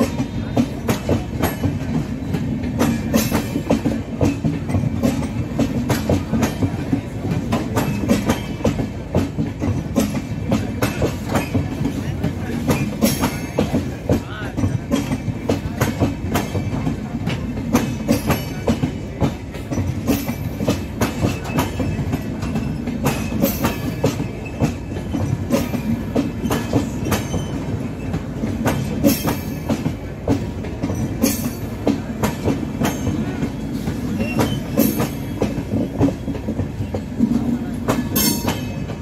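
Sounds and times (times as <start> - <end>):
train wheels rumbling on rails: 0.0 - 39.0
wheels clicking over rail joints: 0.0 - 39.0.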